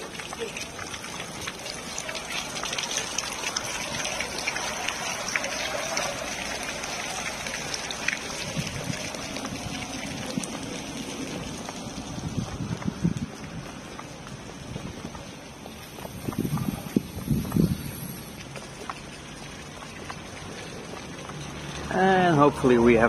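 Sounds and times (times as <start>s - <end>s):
fountain water splashing: 0.0s - 23.0s
street ambience: 0.0s - 23.0s.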